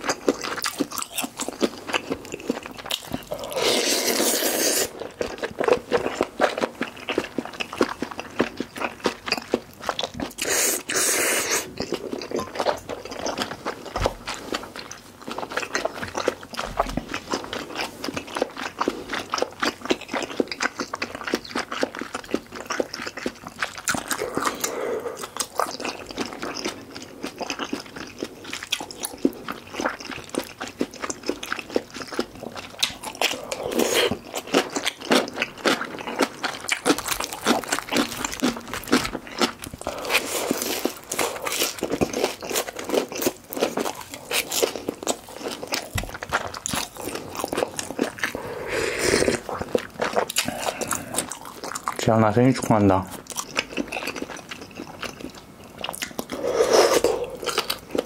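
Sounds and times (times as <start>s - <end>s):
person chewing noodles: 0.0s - 58.0s.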